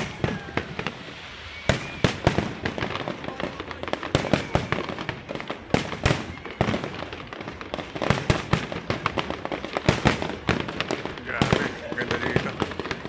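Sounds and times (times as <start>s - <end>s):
fireworks bangs and crackles: 0.0s - 13.0s
loud fireworks booms: 0.0s - 13.0s.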